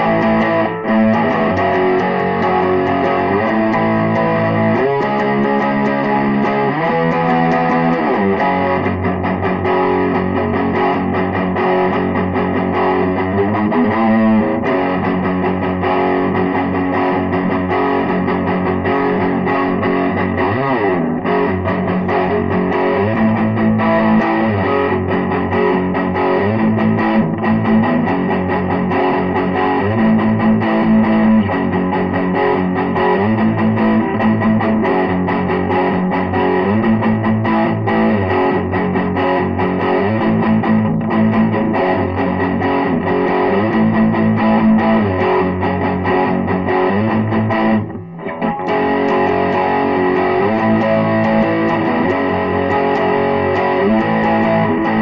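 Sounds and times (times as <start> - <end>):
distorted electric guitar chords: 0.0 - 55.0.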